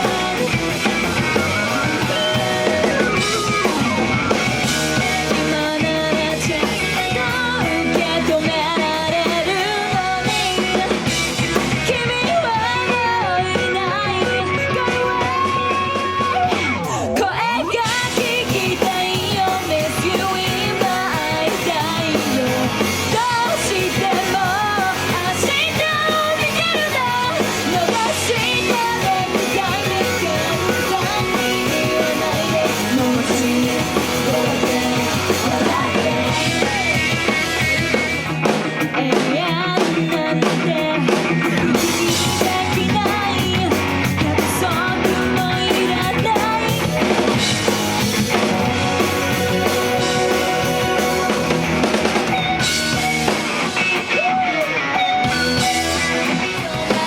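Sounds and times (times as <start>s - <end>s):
person singing: 0.0s - 37.6s, 38.8s - 47.4s, 48.9s - 57.0s
drums: 0.0s - 57.0s
electric guitar: 0.0s - 57.0s.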